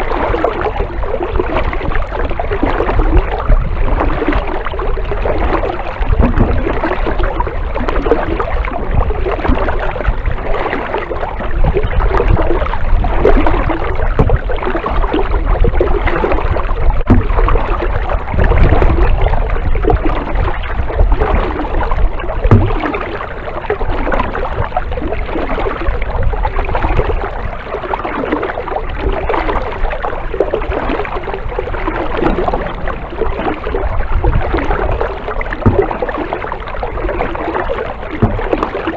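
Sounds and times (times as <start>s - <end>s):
paddle splashing and dripping: 0.0s - 38.9s
water lapping around hull: 0.0s - 38.9s.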